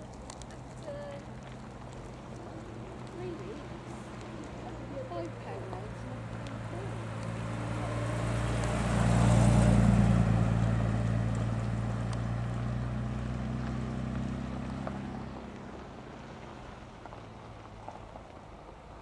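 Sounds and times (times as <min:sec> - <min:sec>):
car engine driving past: 0:00.0 - 0:18.7.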